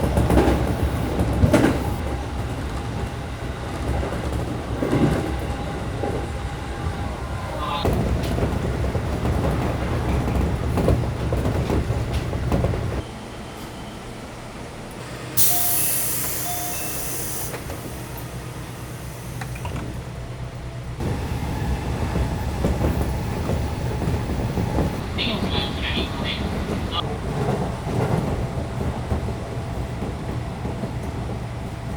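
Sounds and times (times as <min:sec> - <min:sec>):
train rumbling with rail clatter: 0:00.0 - 0:31.9.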